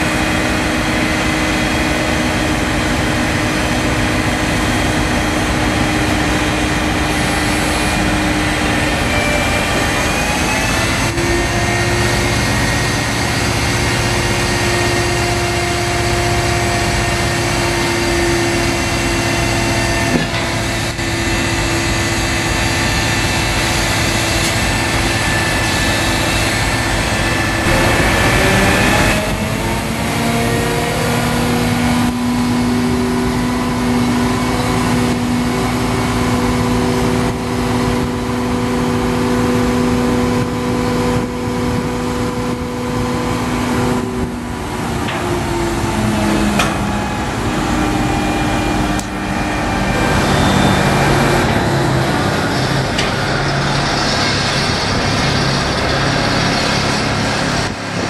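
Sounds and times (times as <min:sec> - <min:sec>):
crane diesel engine running: 0:00.0 - 0:58.0
whining tone: 0:00.0 - 0:58.0.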